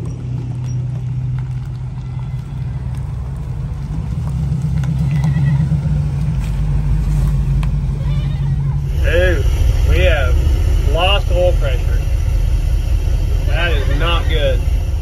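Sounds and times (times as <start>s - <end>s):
motorhome engine rumbling: 0.0s - 15.0s.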